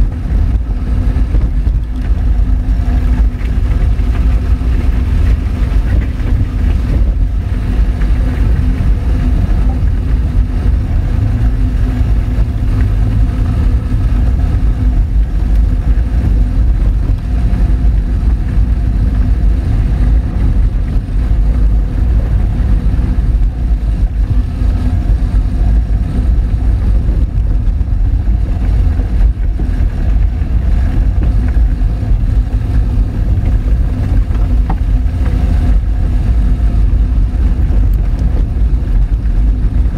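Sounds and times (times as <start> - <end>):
car engine humming: 0.0 - 39.9
tyres rumbling on dirt: 0.0 - 39.9.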